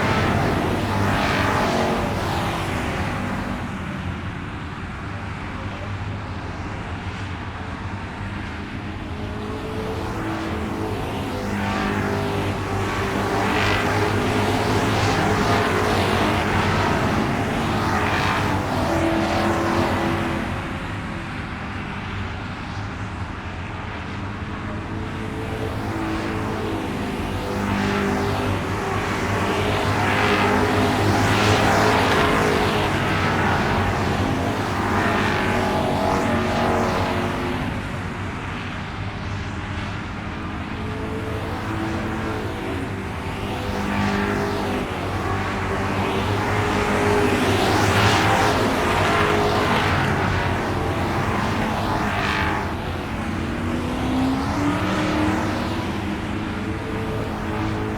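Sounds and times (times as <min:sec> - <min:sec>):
cars passing: 0:00.0 - 0:57.9.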